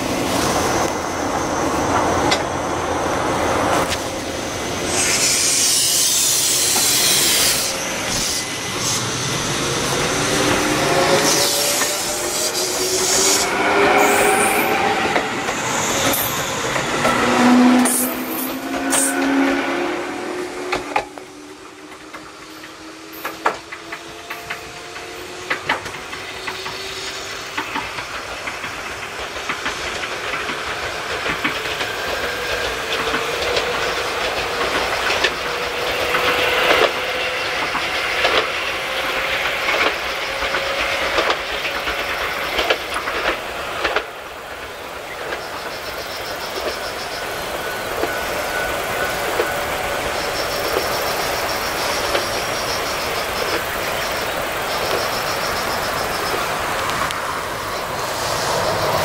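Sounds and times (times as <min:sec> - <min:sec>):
electric train motor whine: 0:00.0 - 0:59.0
rail joint clicks and wheel noise: 0:00.0 - 0:59.0.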